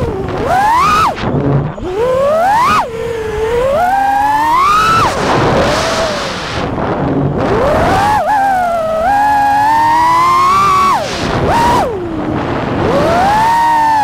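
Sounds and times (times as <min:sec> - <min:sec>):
drone motors whining: 0:00.0 - 0:14.0
rush of wind: 0:00.0 - 0:14.0.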